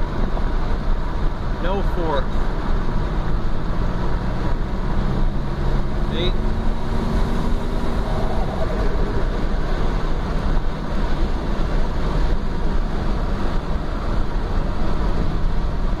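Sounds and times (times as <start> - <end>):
car engine cruising: 0.0 - 16.0
road noise inside car: 0.0 - 16.0.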